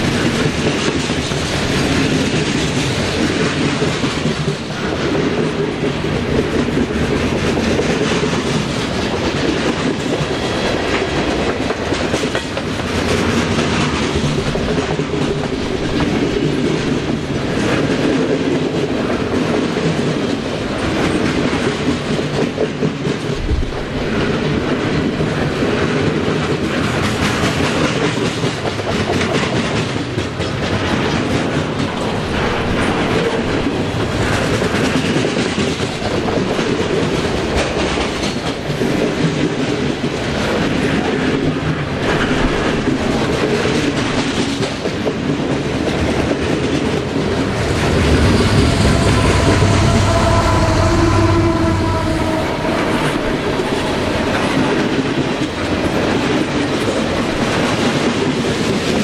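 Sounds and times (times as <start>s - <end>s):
steel wheels rolling on rail: 0.0s - 59.0s
train wheels clacking: 0.0s - 59.0s.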